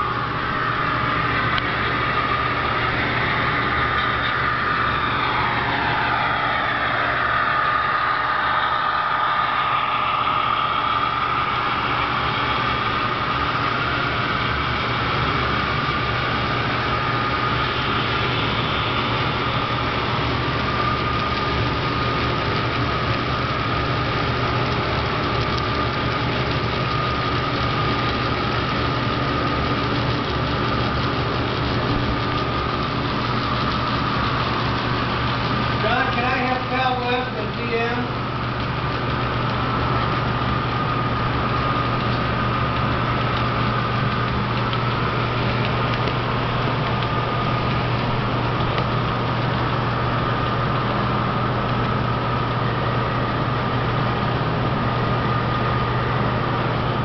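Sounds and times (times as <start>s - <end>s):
high motor whine and hum: 0.0s - 57.0s
model train diesel engine sound: 0.0s - 57.0s.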